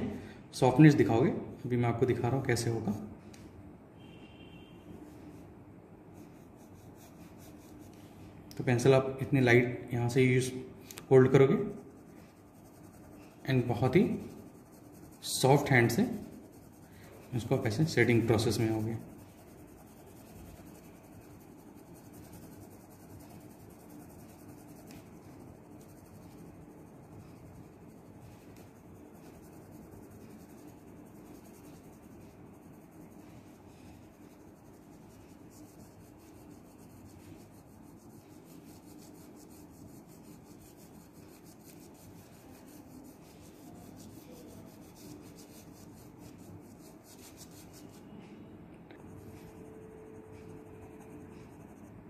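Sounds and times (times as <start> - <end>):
pencil scratching on paper: 6.1 - 8.4, 11.2 - 48.1, 49.0 - 52.0.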